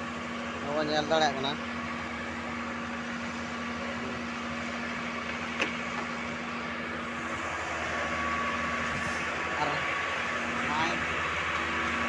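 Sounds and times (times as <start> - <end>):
drilling rig humming: 0.0 - 12.0.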